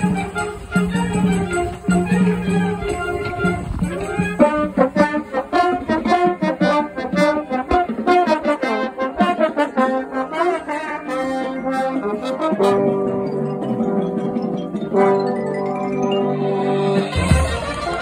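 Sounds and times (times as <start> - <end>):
marching band brass playing: 0.0 - 18.0.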